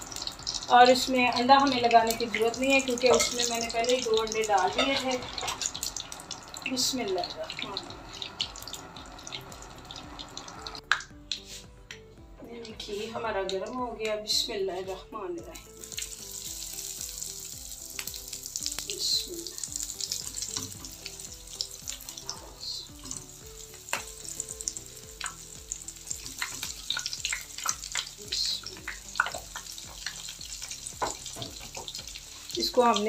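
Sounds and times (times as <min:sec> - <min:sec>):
food sizzling in hot fat: 0:00.0 - 0:33.0.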